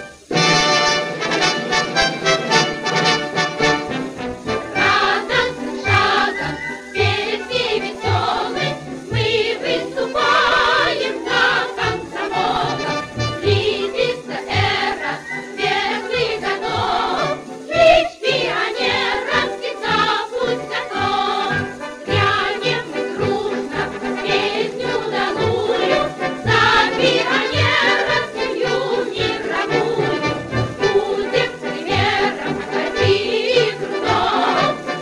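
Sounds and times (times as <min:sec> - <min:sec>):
choral song: 0:00.0 - 0:35.0.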